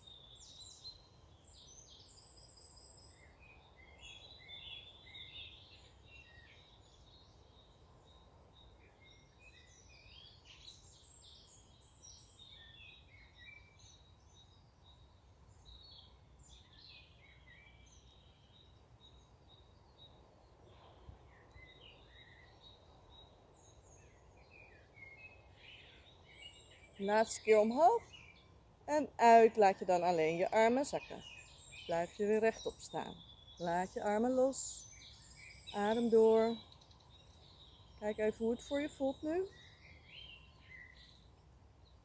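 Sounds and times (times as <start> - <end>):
faint birds chirping: 0.0 - 42.0.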